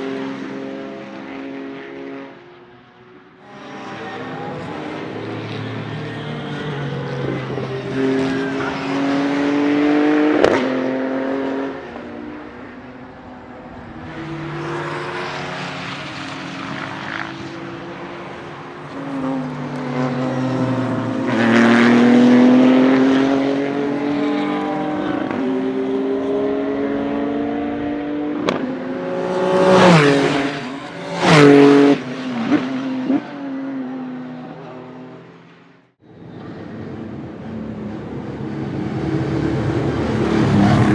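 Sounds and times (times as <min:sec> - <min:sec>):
race car engine at full throttle: 0:00.0 - 0:40.9.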